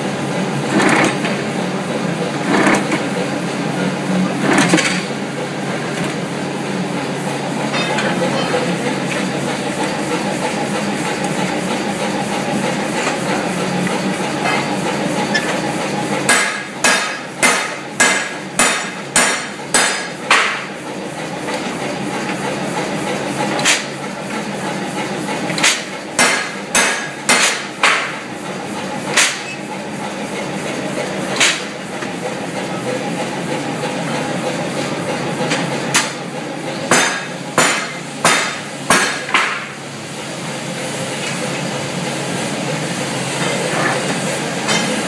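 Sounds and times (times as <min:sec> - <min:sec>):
workshop rumble: 0:00.0 - 0:45.0.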